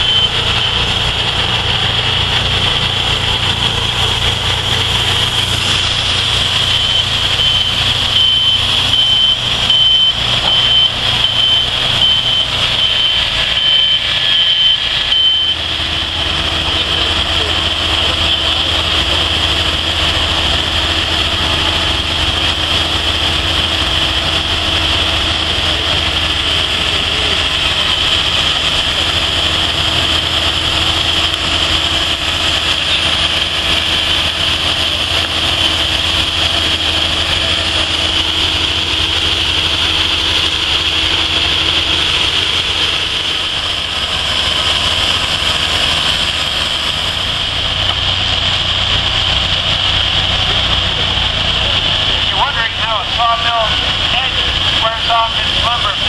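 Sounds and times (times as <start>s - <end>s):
sawmill engines droning: 0.0s - 56.0s.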